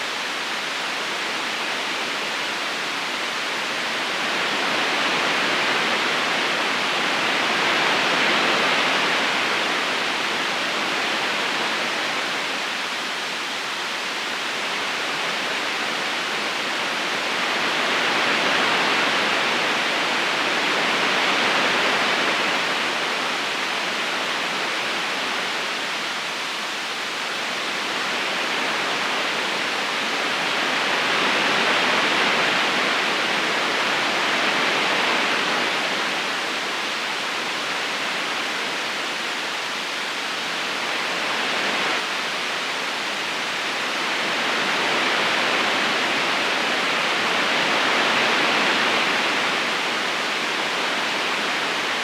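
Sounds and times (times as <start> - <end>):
river current rushing: 0.1 - 52.0.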